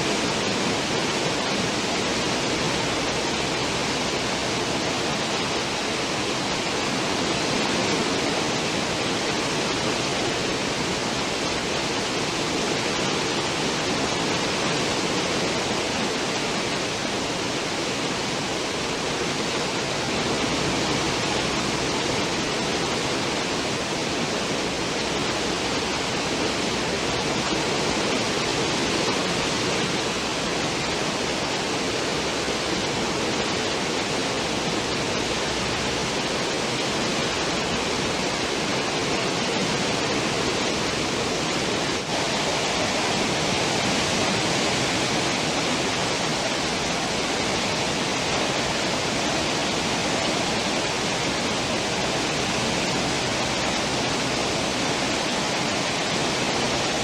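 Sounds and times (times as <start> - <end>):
churned water rushing: 0.0 - 57.0.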